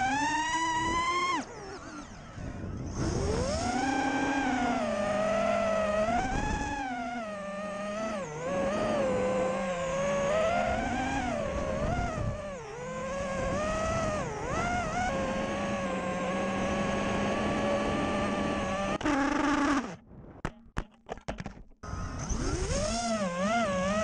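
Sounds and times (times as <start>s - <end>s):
drone motors whining: 0.0s - 20.0s, 21.8s - 24.0s.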